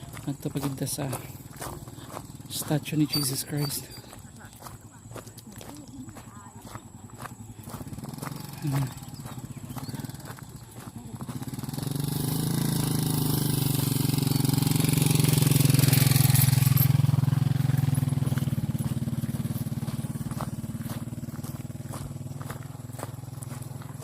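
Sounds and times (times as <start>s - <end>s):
motorcycle passing by: 0.0s - 24.0s.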